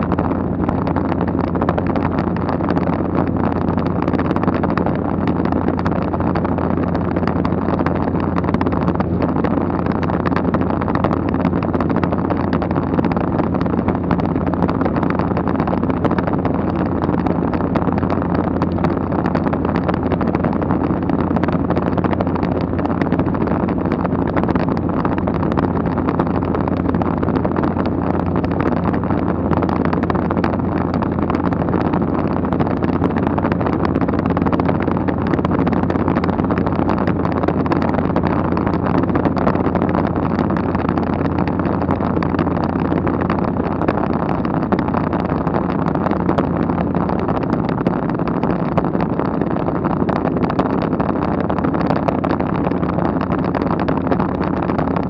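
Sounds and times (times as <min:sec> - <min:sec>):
aircraft engine drone in cabin: 0:00.0 - 0:55.0.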